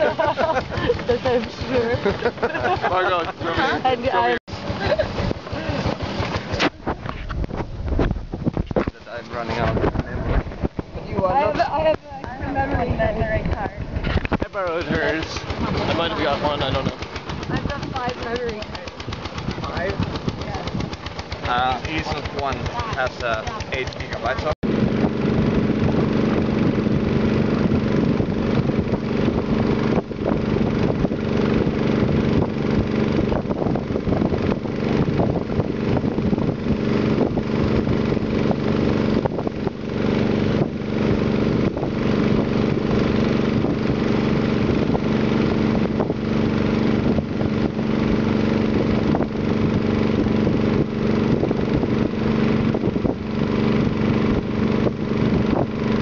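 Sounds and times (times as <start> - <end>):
boat engine droning: 0.0 - 8.4, 9.0 - 56.0.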